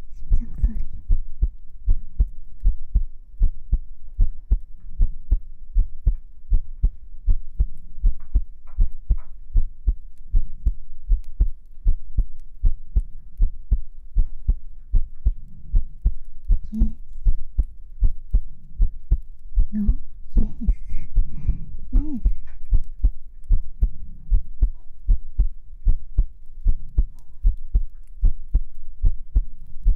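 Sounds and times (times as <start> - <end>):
heartbeat: 0.0 - 29.9.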